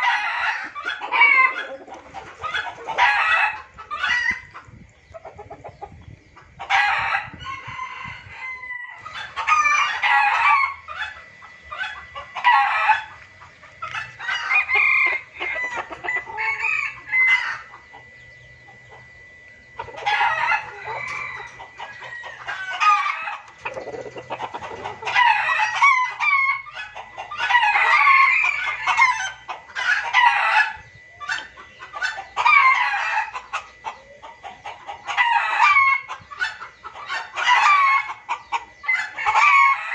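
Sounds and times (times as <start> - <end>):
junglefowl clucking and cackling: 0.0 - 39.9.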